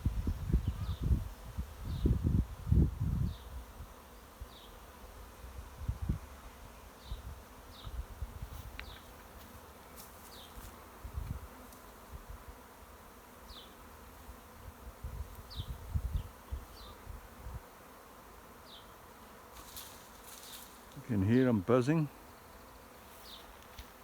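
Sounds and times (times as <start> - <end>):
bees buzzing: 3.3 - 24.0.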